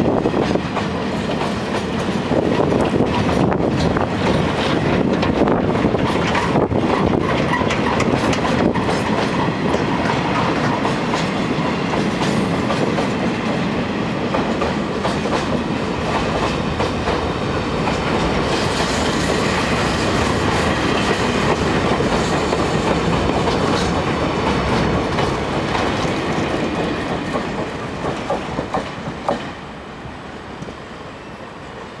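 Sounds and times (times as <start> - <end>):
train wheels clacking over rail joints: 0.0 - 29.6.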